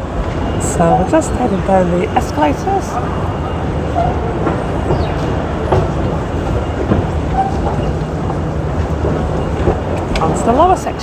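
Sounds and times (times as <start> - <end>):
distant voices: 0.0 - 11.0.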